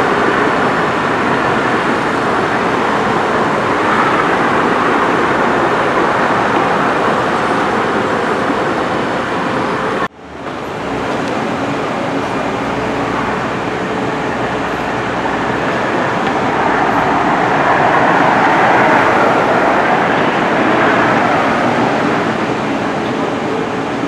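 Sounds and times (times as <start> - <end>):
loud outdoor background noise: 0.0 - 24.0.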